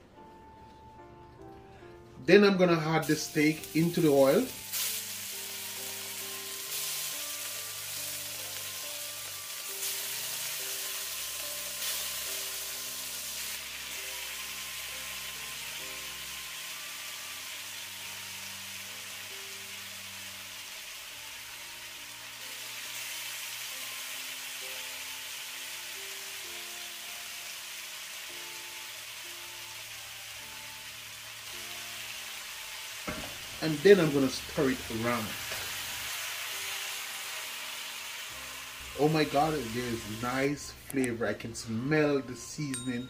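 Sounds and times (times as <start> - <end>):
background music of held notes: 0.0 - 43.0
meat sizzling in hot oil: 3.0 - 40.8.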